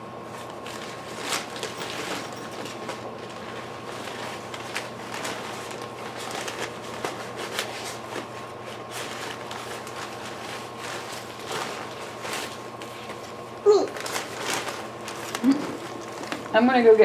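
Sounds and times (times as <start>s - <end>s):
faint high hum: 0.0s - 17.0s
rustling and handling noise: 0.0s - 17.0s.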